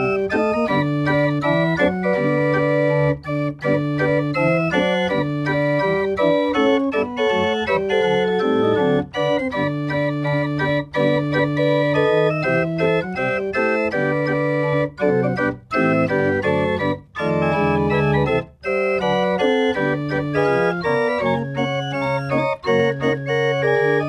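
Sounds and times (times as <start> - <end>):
pipe organ playing chords: 0.0 - 24.0.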